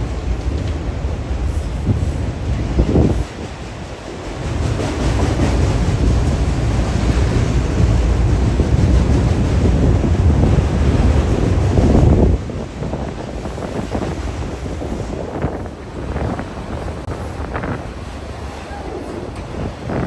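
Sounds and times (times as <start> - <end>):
freight train rumbling past: 0.0 - 20.0
wind buffeting microphone: 0.0 - 20.0.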